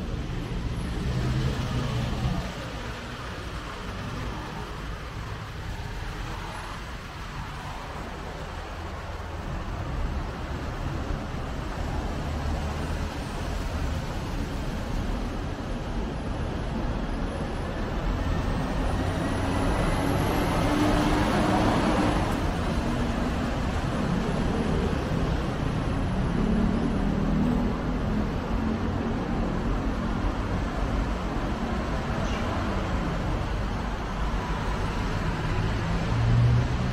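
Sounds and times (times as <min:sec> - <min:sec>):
city road traffic: 0:00.0 - 0:36.9.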